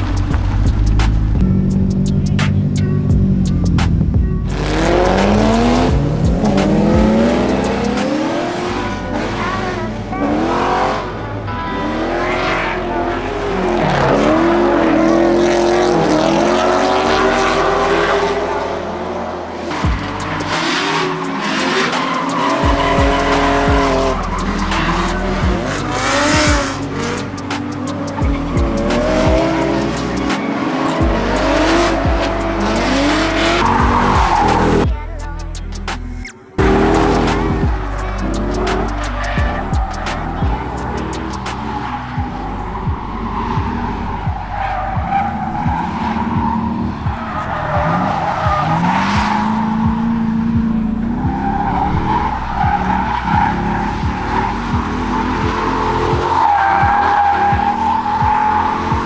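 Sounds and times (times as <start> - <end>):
background music with bass line: 0.0 - 59.0
car engine revving: 0.0 - 59.0
tyres squealing and skidding: 0.0 - 59.0.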